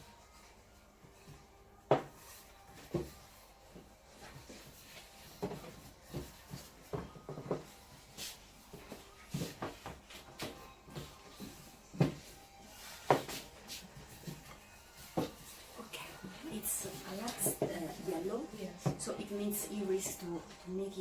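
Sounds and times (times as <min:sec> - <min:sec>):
hands kneading dough on a surface: 0:00.0 - 0:18.3.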